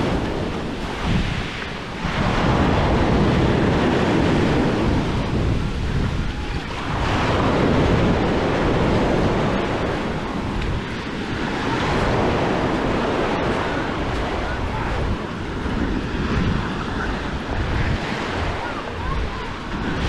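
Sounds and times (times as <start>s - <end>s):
sea waves washing on beach: 0.0s - 20.0s
wind buffeting microphone: 0.0s - 20.0s.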